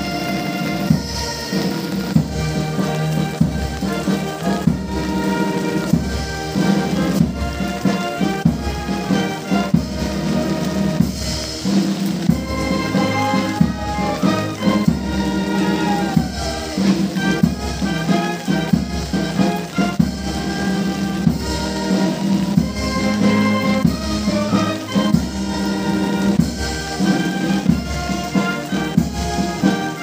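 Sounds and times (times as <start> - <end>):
brass band playing held notes: 0.0 - 30.0.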